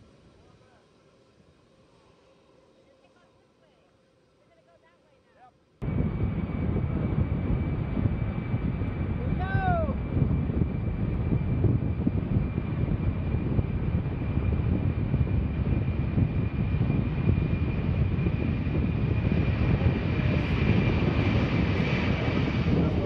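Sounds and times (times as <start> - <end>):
jet engine high whine: 0.0 - 23.0
jet engines low rumble: 0.0 - 23.0.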